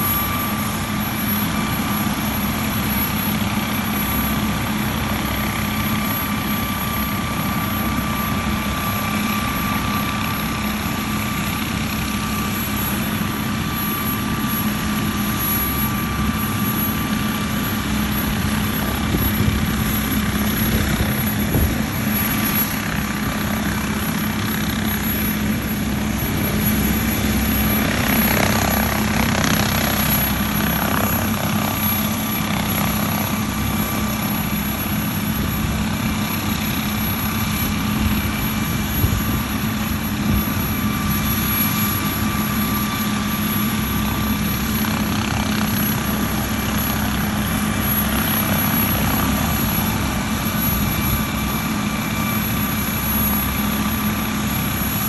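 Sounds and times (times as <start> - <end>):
helicopter rotor rushing: 0.0 - 55.0
helicopter turbine whine: 0.0 - 55.0.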